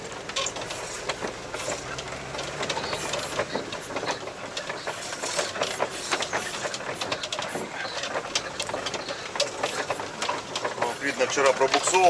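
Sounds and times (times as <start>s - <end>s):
rattling and clatter: 0.0s - 12.0s
vehicle engine humming: 0.0s - 12.0s.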